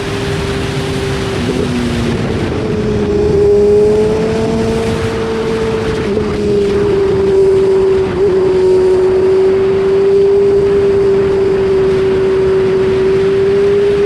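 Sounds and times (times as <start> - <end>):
motorcycle engine at high revs: 0.0 - 14.0
wind and road noise: 0.0 - 14.0.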